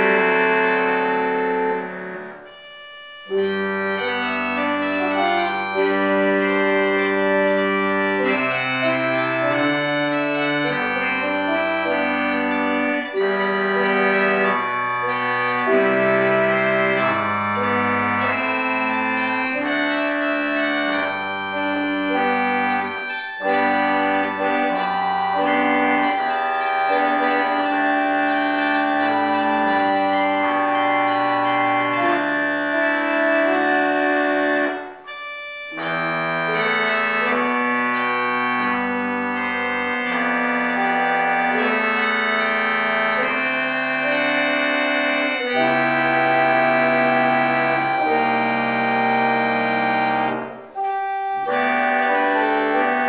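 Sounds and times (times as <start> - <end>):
church organ playing chords: 0.0 - 53.0.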